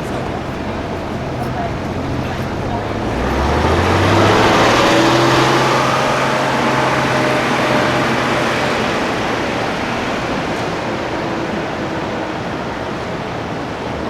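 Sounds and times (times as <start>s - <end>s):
car driving by: 0.0s - 14.0s.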